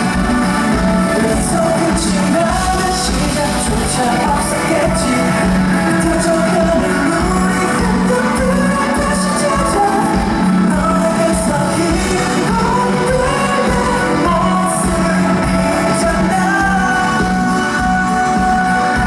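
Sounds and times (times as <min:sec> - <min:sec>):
live pop music with singer: 0:00.0 - 0:19.0.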